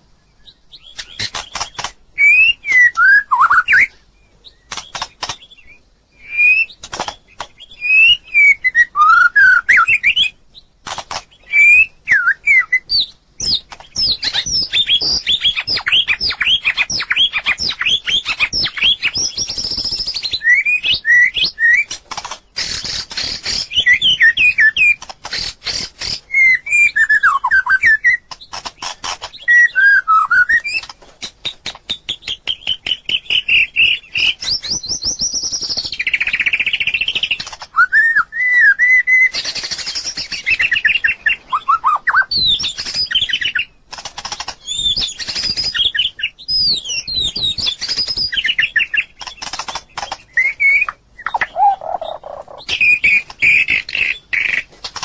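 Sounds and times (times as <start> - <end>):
songbird singing varied song: 0.0 - 55.0.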